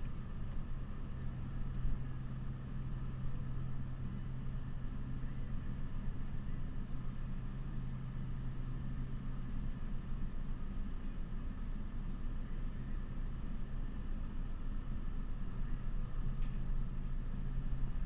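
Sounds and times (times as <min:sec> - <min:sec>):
refrigeration equipment humming: 0:00.0 - 0:18.0.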